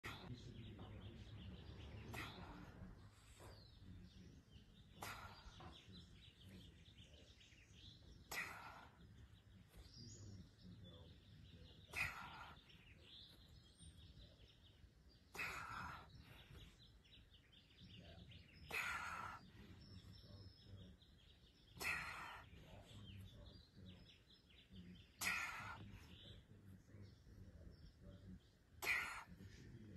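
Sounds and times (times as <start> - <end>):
faint outdoor background noise: 0.0 - 29.9.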